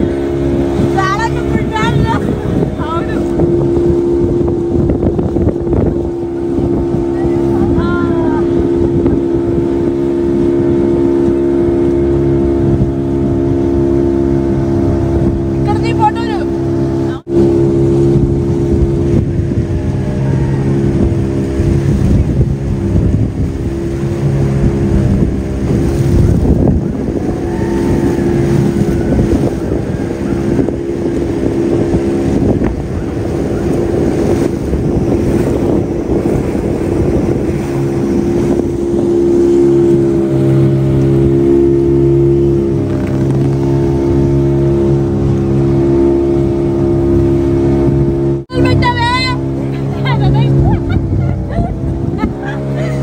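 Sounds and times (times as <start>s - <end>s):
outboard motor running: 0.0s - 53.0s
water rushing past hull: 0.0s - 53.0s
wind on microphone: 0.0s - 53.0s.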